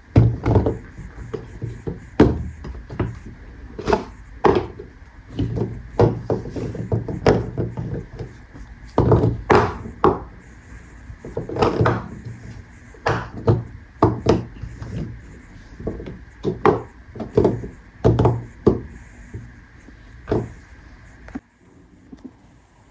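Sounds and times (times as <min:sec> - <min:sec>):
soap bars tapping and knocking: 0:00.1 - 0:10.4, 0:11.2 - 0:19.5, 0:20.2 - 0:20.6.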